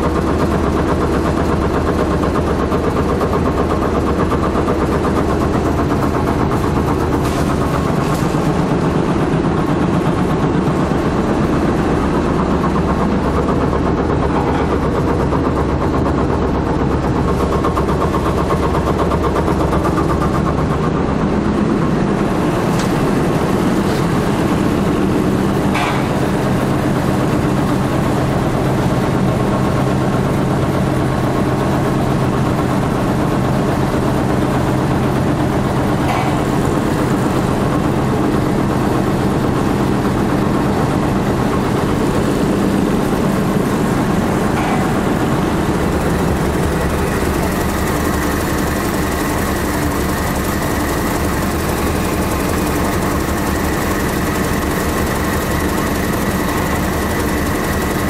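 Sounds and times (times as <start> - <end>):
machinery droning: 0.0 - 58.0.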